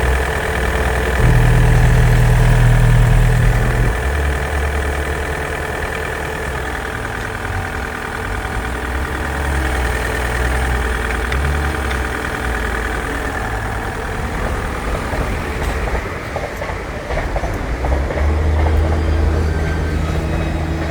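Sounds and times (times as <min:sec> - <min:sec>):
diesel engine idling: 0:00.0 - 0:16.4, 0:17.7 - 0:20.9.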